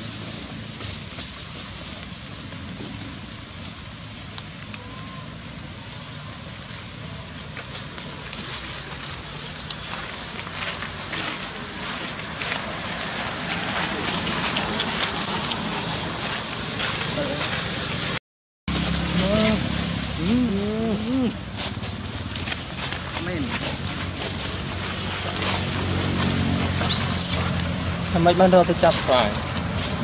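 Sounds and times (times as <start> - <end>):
footsteps crunching dry leaves: 0.0 - 18.2, 18.8 - 30.0.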